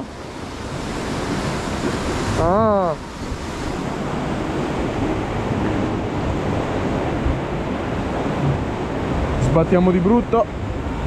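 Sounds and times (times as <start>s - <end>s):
churning water rushing: 0.0s - 11.0s
wind buffeting microphone: 0.0s - 11.0s.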